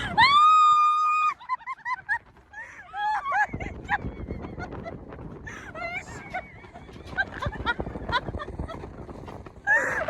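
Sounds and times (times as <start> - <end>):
low rumbling of ride: 0.0 - 10.0.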